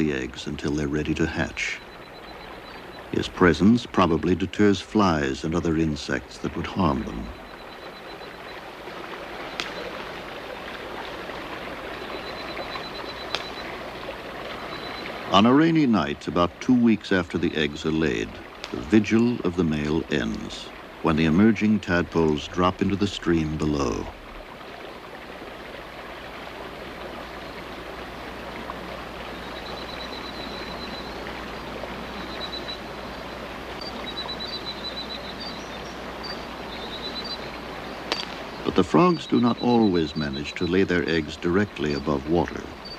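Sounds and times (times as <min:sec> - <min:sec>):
faint high pulsing tone: 0:00.0 - 0:24.2, 0:27.3 - 0:42.9
forest stream rushing: 0:00.0 - 0:42.9.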